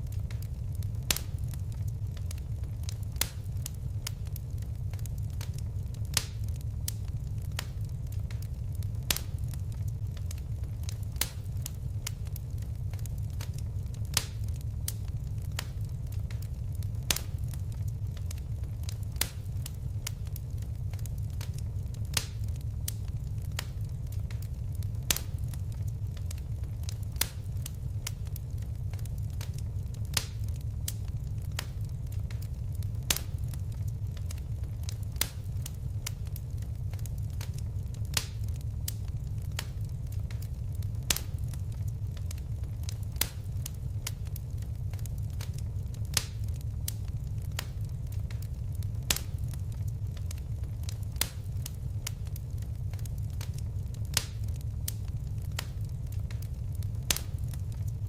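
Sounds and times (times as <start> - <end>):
fire crackling: 0.0 - 58.0
low rumble of flames: 0.0 - 58.0
sharp pops and snaps: 0.0 - 58.0.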